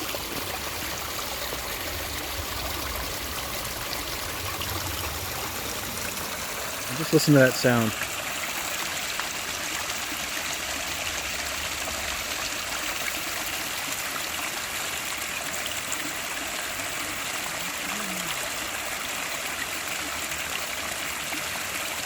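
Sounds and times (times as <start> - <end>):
water spilling over rocks: 0.0 - 22.0.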